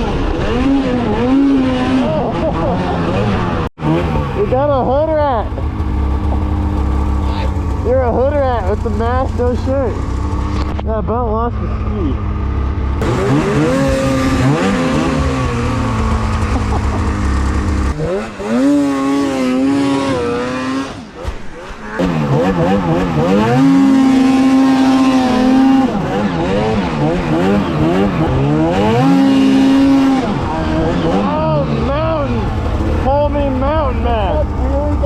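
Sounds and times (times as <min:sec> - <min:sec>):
snowmobile engines revving: 0:00.0 - 0:35.0.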